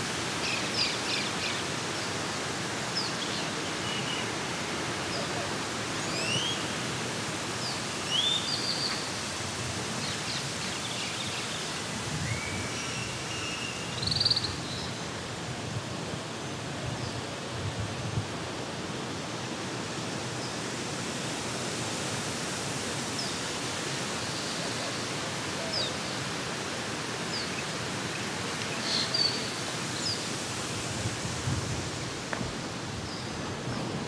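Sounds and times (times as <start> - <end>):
flowing water: 0.0 - 34.0.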